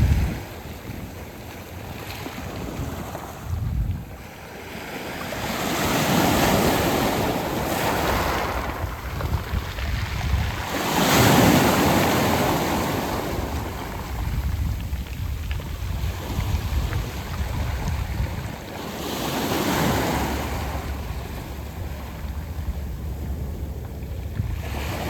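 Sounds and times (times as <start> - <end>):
waves breaking on pebble beach: 0.0 - 25.0
wind rumbling on microphone: 0.0 - 25.0.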